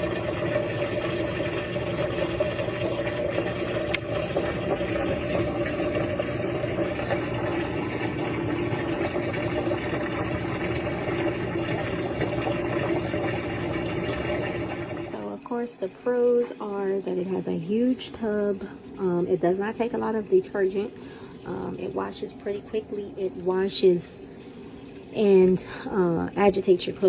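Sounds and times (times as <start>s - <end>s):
washing machine pump humming: 0.0s - 27.0s.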